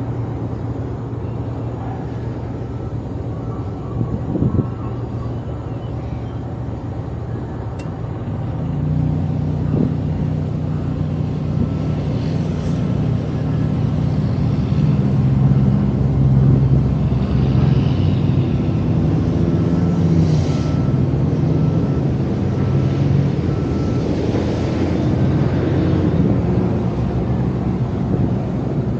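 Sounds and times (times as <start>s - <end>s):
large engine running: 0.0s - 28.9s.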